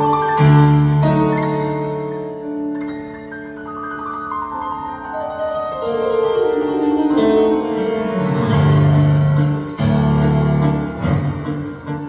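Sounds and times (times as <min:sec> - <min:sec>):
piano waltz music: 0:00.0 - 0:12.0.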